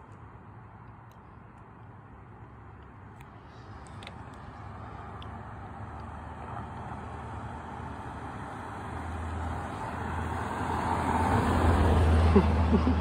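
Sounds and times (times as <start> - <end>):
car approaching: 0.0 - 13.0.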